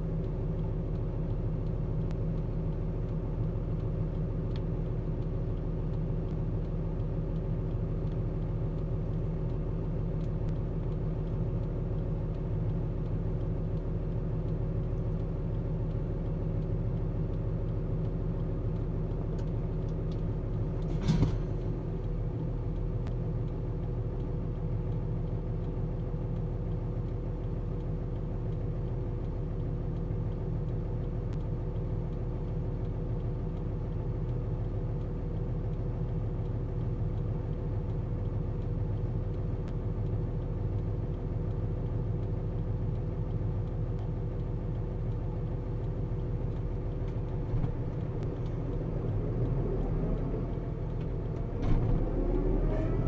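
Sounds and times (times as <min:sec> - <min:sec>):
tractor engine from inside cab: 0:00.0 - 0:53.0.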